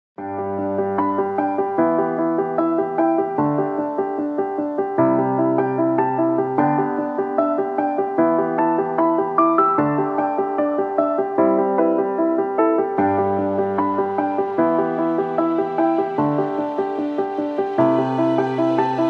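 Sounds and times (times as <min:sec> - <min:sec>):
piano music: 0:00.2 - 0:19.0.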